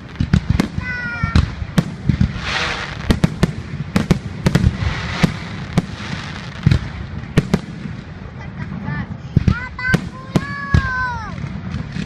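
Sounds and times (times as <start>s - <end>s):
crackling hiss: 0.0s - 12.0s
fireworks bangs: 0.0s - 12.0s.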